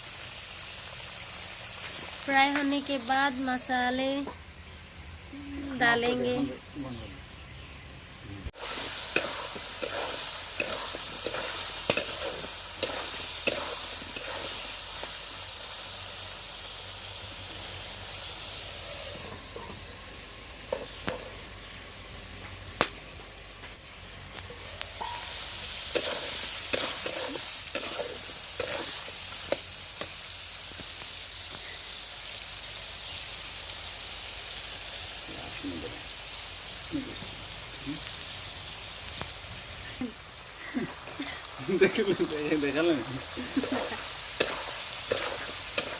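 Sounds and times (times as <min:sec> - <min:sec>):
food sizzling in hot oil: 0:00.0 - 0:45.9.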